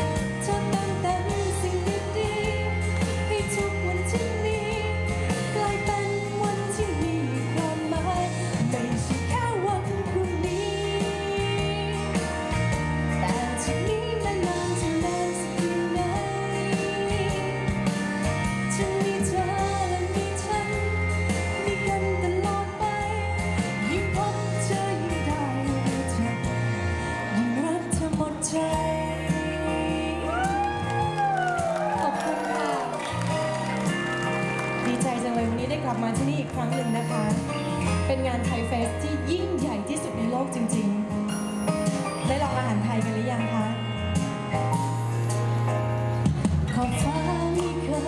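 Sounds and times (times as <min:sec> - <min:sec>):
woman singing into a microphone: 0:00.0 - 0:33.0, 0:34.8 - 0:41.4, 0:42.0 - 0:44.1, 0:46.7 - 0:48.0
pop backing music: 0:00.0 - 0:48.0.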